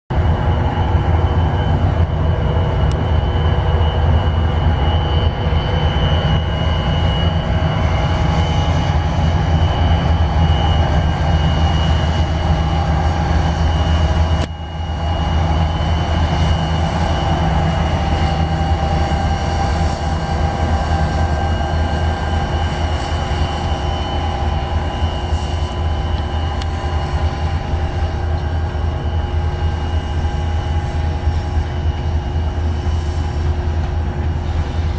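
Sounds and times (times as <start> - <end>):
freight train rumbling past: 0.1 - 34.9
train wheels squealing: 0.1 - 34.9.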